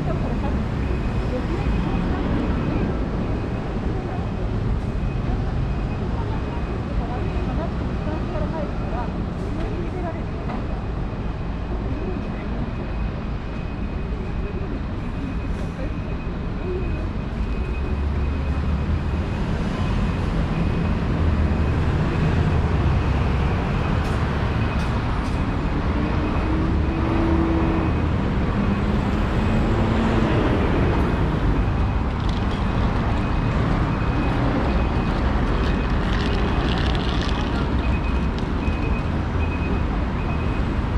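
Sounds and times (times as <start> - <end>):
low rumble of road traffic: 0.0 - 40.9
vehicle engine hum: 0.0 - 40.9.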